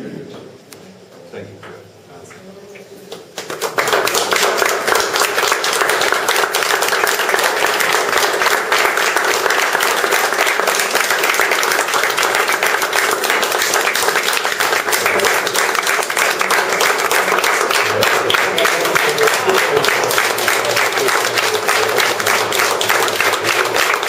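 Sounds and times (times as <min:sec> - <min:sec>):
crowd applauding: 0:03.3 - 0:24.0.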